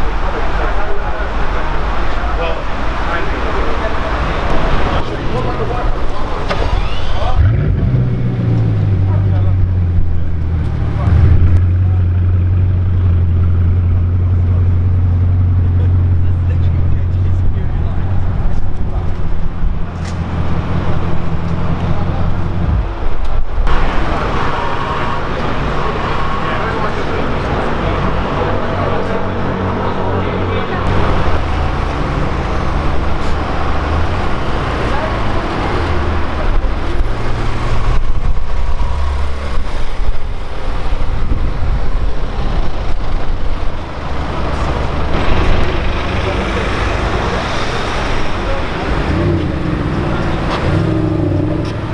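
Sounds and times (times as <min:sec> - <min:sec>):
car engine rumbling: 0:00.0 - 0:51.9
street noise: 0:00.0 - 0:51.9.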